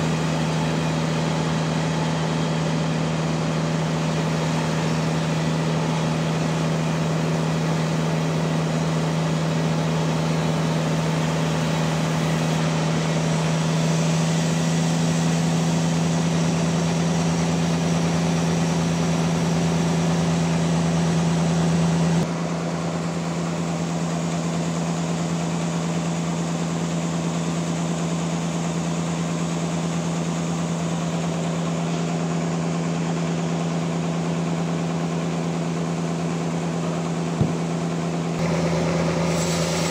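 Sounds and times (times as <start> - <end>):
sawmill cutting log: 0.0 - 39.9.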